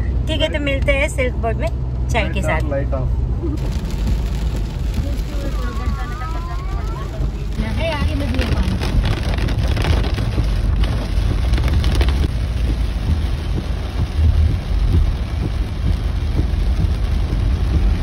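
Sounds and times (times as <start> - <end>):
engine low rumble: 0.0 - 18.0
tyres on wet road: 0.0 - 18.0
heavy rain on car roof: 3.6 - 18.0.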